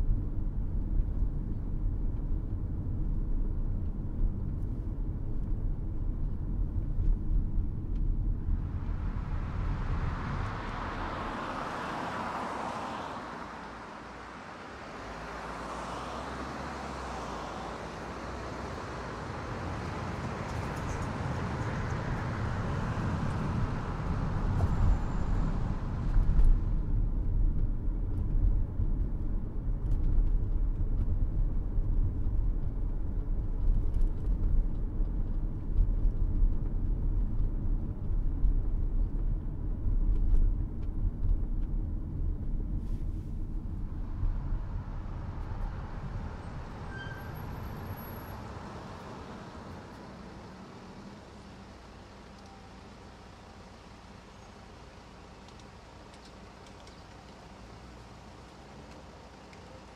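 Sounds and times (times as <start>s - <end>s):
vehicles passing: 7.6s - 59.9s.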